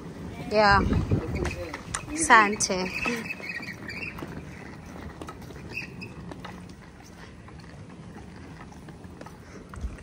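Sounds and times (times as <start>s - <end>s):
suitcase wheels rattling on concrete: 0.0s - 10.0s.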